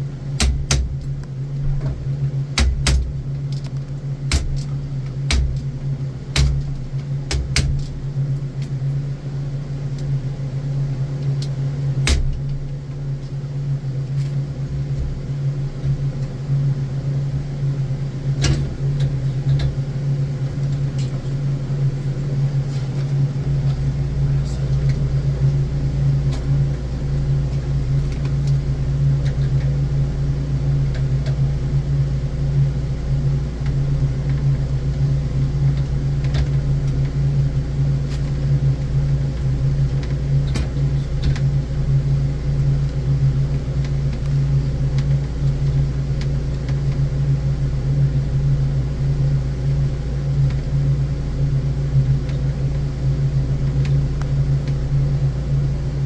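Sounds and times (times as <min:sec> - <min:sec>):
machinery humming: 0:00.0 - 0:56.0.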